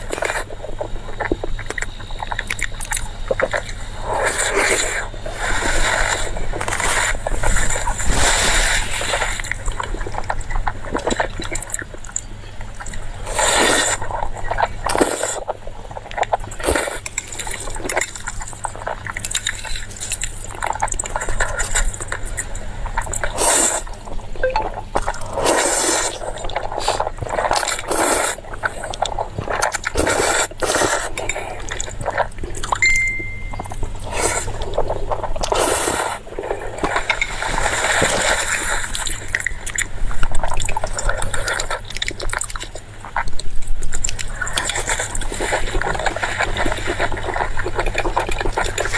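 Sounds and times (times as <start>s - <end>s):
crackly clicks and smacks: 0.0s - 5.1s, 5.7s - 25.2s, 33.6s - 48.9s
wet chewing sounds: 0.0s - 48.9s.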